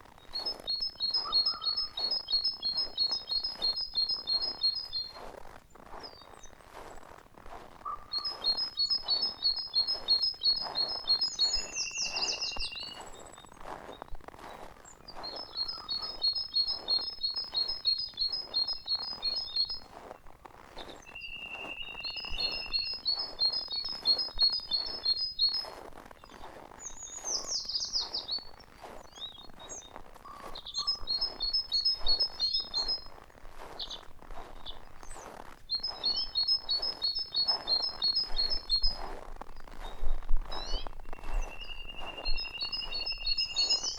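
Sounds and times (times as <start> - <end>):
footsteps crunching in snow: 0.0 - 43.9
songbird trilling: 0.3 - 5.2, 7.8 - 13.5, 15.1 - 20.2, 21.0 - 25.7, 26.3 - 33.2, 33.8 - 43.9.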